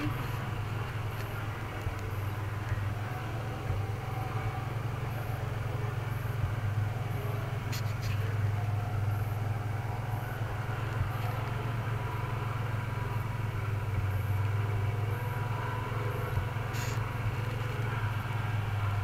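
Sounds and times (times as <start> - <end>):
car engine idling: 0.0 - 19.0
faint steady whine: 0.0 - 19.0.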